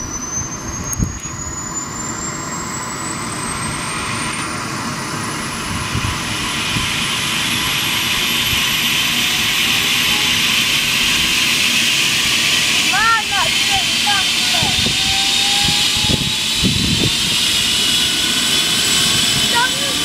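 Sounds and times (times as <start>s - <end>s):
helicopter turbine whine: 0.0s - 20.0s.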